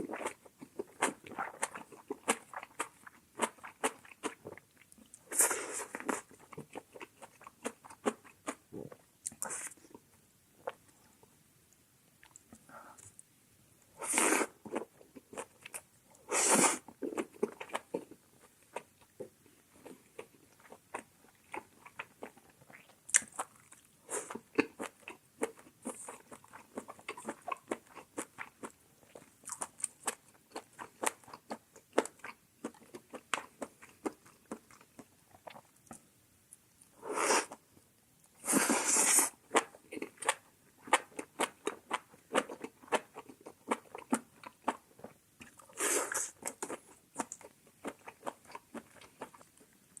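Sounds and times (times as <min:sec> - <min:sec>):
person chewing food: 0:00.0 - 0:11.2, 0:12.2 - 0:13.3, 0:14.1 - 0:37.6, 0:38.4 - 0:50.0.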